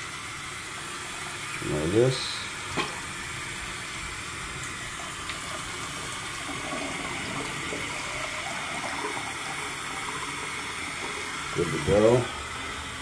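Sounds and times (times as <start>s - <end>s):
faucet running into sink: 0.0s - 13.0s
water draining: 0.0s - 13.0s.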